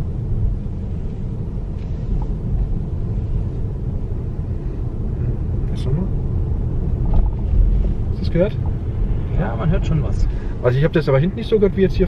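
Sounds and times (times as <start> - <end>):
tyre and road rumble: 0.0 - 12.0.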